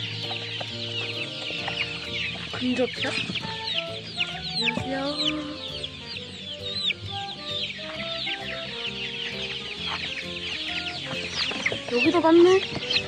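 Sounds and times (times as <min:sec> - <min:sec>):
background music: 0:00.0 - 0:13.0
chicks peeping: 0:00.0 - 0:13.0.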